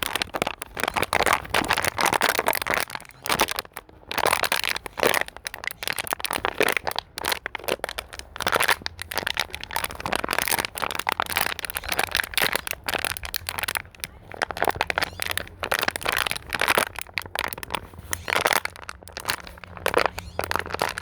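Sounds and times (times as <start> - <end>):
plastic bottle crinkling: 0.0 - 21.0.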